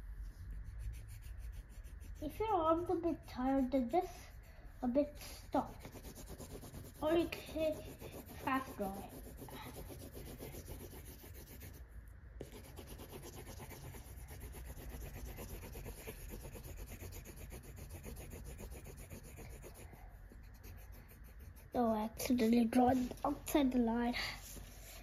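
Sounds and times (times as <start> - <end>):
pencil scribbling on paper: 0.4 - 4.5, 5.5 - 11.8, 12.4 - 23.2.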